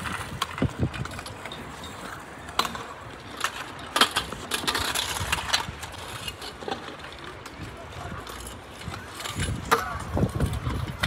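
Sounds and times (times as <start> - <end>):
scooter and skateboard wheels clattering: 0.0 - 11.0.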